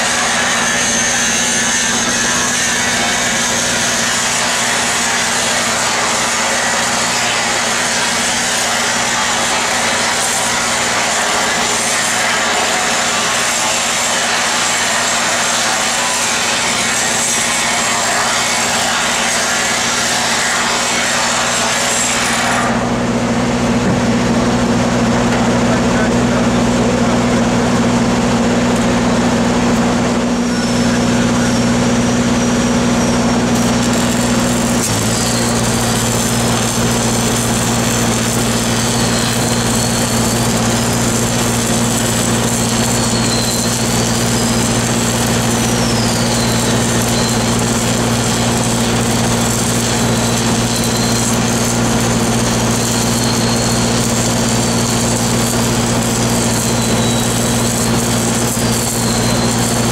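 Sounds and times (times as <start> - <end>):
crackling hiss of welding arcs: 0.0 - 22.8, 32.5 - 59.9
welding machine engine running: 0.0 - 59.9.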